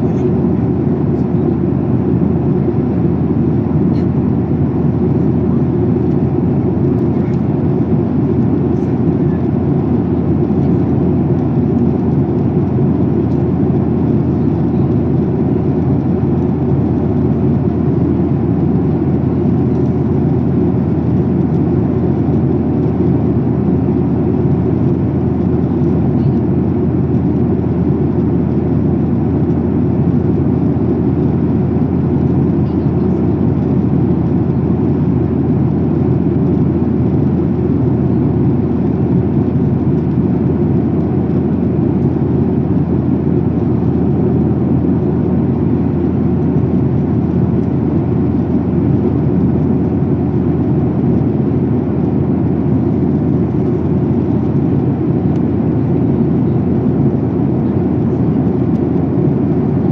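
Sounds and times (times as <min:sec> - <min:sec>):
airplane cabin engine roar: 0:00.0 - 0:59.9.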